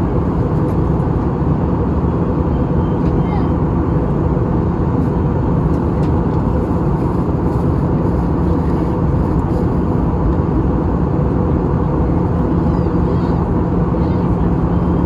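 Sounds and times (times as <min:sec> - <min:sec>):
airflow and jet engine rush: 0:00.0 - 0:15.0.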